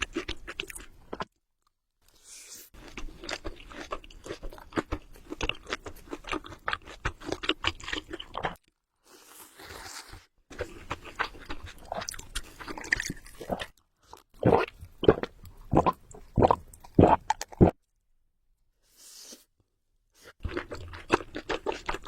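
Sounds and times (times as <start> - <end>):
person chewing crunchy food: 0.0 - 1.4, 2.2 - 17.8, 20.2 - 22.0.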